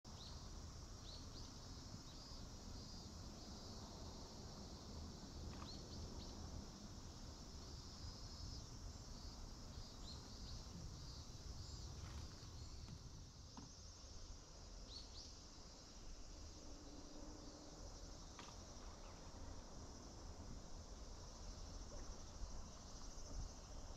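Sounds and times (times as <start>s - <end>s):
insects chirring: 0.1s - 23.9s.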